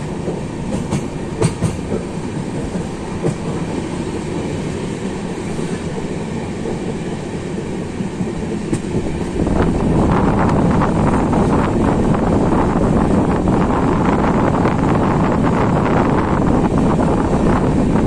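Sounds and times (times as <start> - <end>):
train running along track: 0.0 - 18.0
wind buffeting microphone: 0.0 - 18.0.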